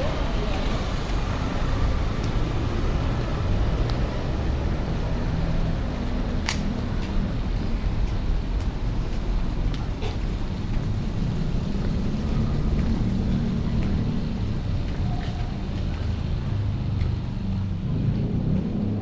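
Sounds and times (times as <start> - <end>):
low rumble of street noise: 0.0 - 19.0.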